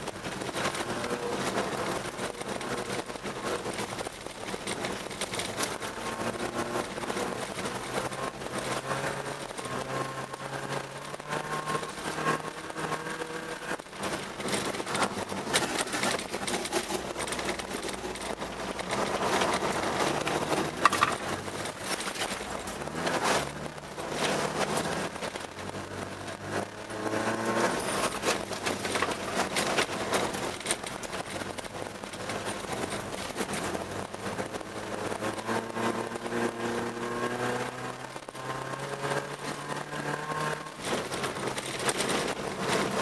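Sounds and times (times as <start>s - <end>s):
car engine revving: 0.0s - 43.0s
tyres on packed snow: 0.0s - 43.0s.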